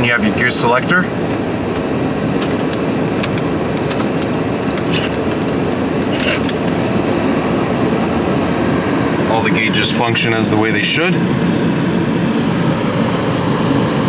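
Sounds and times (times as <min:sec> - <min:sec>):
climate-control blower rushing air: 0:00.0 - 0:14.0.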